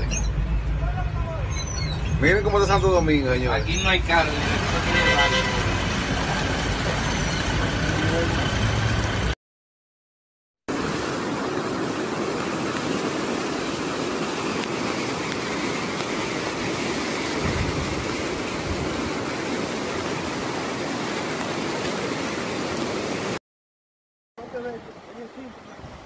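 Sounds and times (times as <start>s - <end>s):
floodwater rushing: 1.7s - 9.4s, 10.7s - 23.4s, 24.4s - 26.0s.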